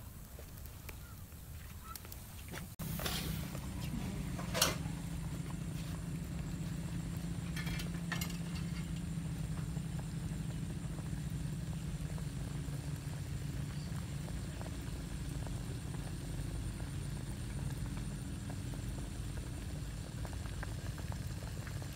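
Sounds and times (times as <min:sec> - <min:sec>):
water boiling: 0:00.0 - 0:21.9.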